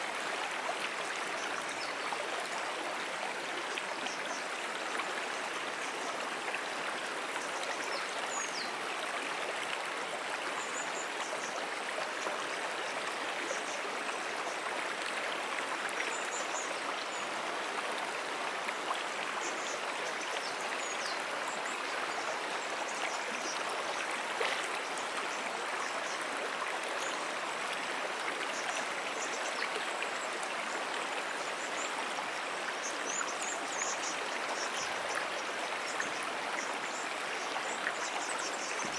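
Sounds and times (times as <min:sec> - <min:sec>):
brook water rushing: 0:00.0 - 0:38.9.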